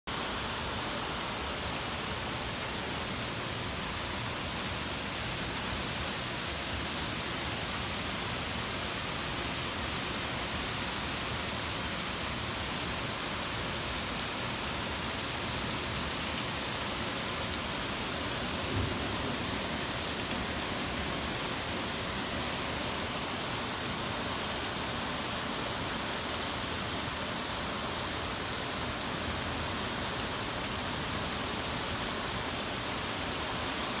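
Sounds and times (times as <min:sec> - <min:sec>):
torrential rain: 0:00.0 - 0:34.0.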